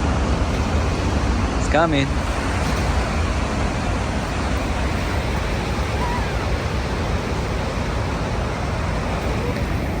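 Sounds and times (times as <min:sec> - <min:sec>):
ocean surf: 0:00.0 - 0:10.0
wind buffeting microphone: 0:00.0 - 0:10.0.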